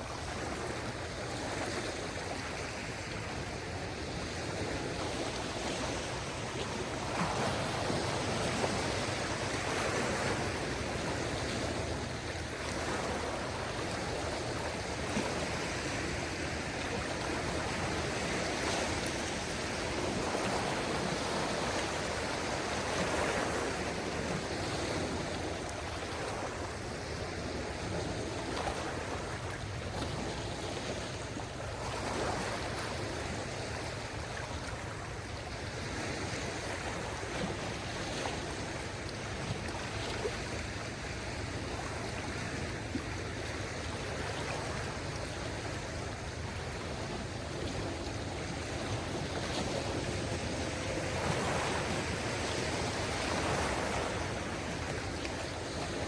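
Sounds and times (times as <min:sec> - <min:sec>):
small waves washing onto shore: 0:00.0 - 0:56.0.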